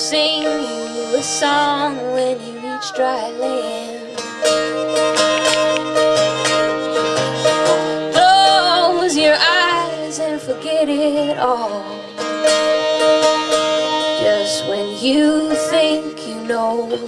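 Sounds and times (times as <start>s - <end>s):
acoustic string band playing: 0.0s - 17.0s.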